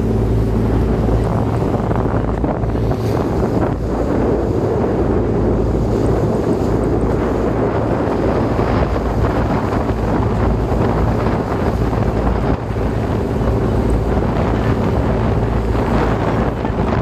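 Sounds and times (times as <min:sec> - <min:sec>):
boat engine running: 0:00.0 - 0:17.0
wind buffeting microphone: 0:00.0 - 0:17.0.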